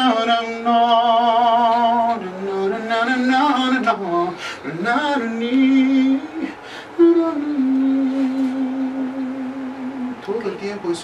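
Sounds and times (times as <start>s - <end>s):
person singing unaccompanied: 0.0s - 11.0s.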